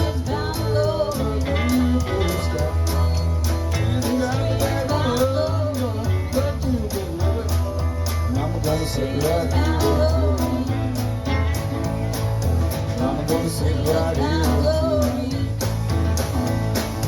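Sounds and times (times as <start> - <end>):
guitar with pitch bends: 0.0 - 17.0
live band playing country blues: 0.0 - 17.0.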